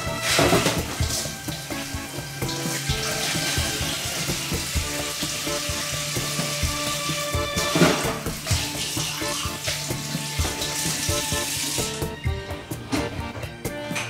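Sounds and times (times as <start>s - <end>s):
kitchen tap running into sink: 0.0s - 12.2s
dishes being rinsed: 0.0s - 13.1s
background music: 0.0s - 14.0s.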